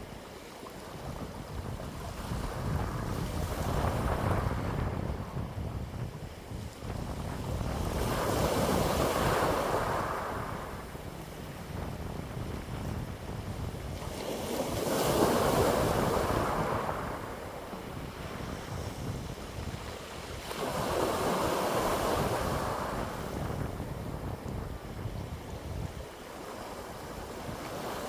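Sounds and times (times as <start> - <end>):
wind blowing in gusts: 0.0 - 28.0
wind rumble on microphone: 0.0 - 28.0.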